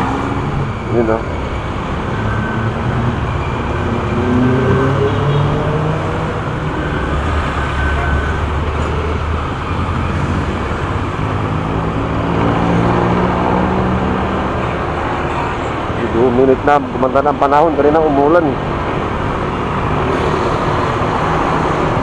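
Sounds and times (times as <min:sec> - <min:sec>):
motorcycle engine revving: 0:00.0 - 0:22.0
road and wind noise: 0:00.0 - 0:22.0.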